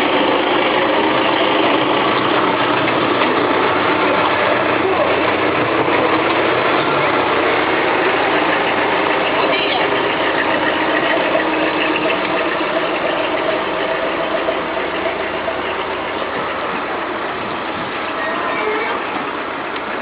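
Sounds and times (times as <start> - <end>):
machinery engine running: 0.0 - 20.0.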